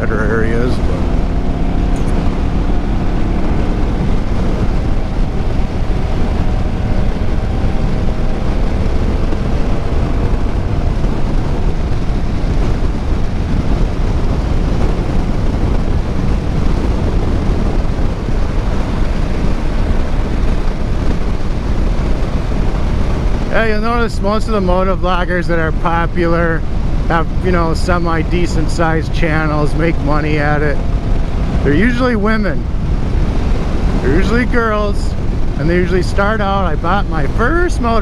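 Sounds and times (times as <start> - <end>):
motorcycle engine running: 0.0 - 38.0
wind rushing over microphone: 0.0 - 38.0.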